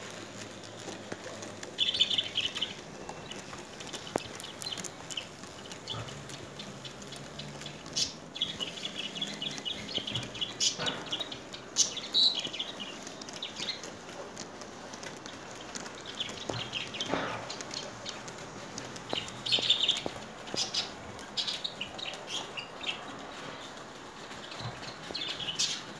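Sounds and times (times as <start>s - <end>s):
model train wheels clicking: 0.0s - 25.9s.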